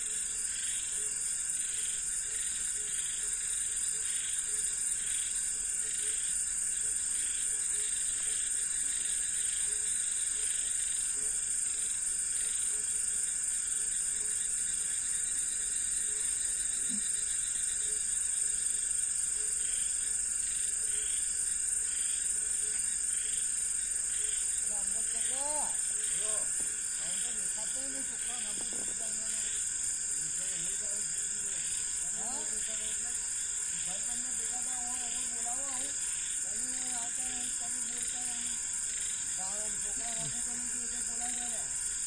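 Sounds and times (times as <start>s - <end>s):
crickets droning: 0.0s - 42.0s
soft pulsing insect call: 0.0s - 42.0s.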